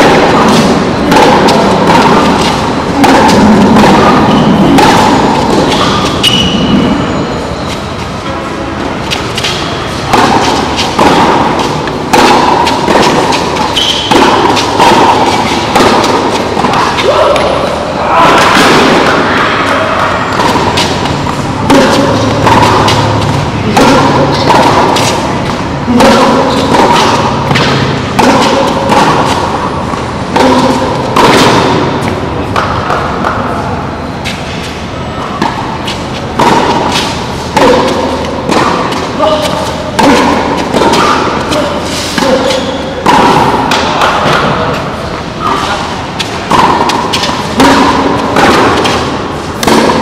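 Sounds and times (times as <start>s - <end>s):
tennis ball hit with racquets: 0.0s - 50.0s.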